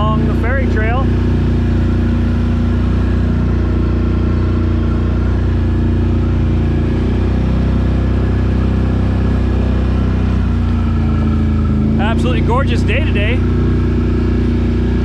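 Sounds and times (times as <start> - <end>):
atv engine droning: 0.0 - 15.0.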